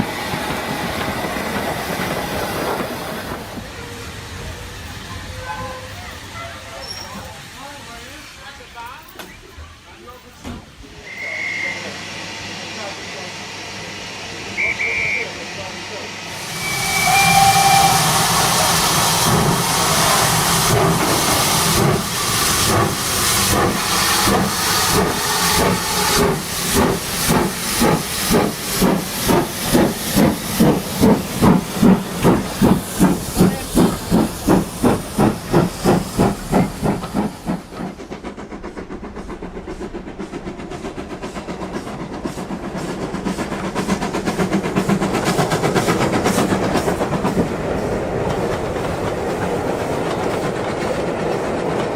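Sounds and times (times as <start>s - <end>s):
steam hissing: 0.0s - 9.0s, 9.9s - 51.9s
steam locomotive chuffing: 0.0s - 51.9s
train rolling rumble: 0.0s - 51.9s.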